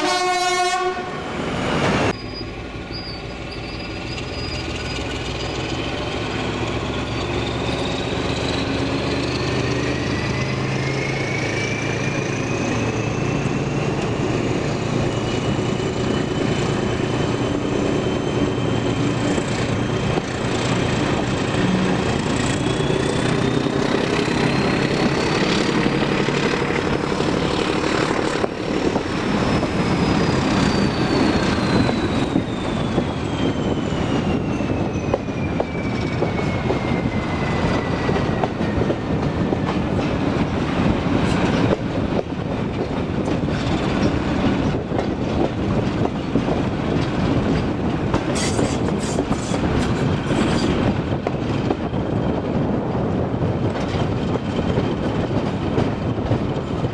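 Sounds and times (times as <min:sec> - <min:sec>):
diesel locomotive engine whining: 0:00.0 - 0:56.9
train wheels on track: 0:00.0 - 0:56.9.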